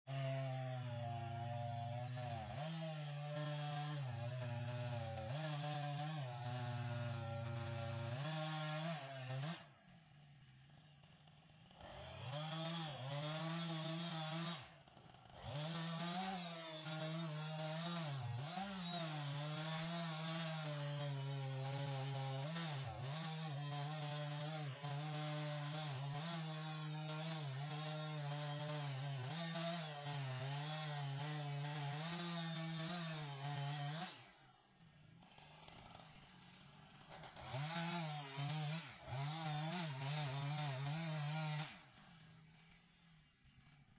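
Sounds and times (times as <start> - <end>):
chainsaw cutting wood: 0.1 - 43.9.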